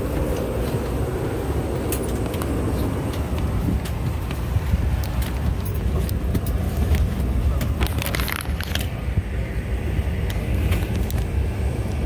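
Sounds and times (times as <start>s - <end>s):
jet engines low rumble in cabin: 0.0s - 12.0s.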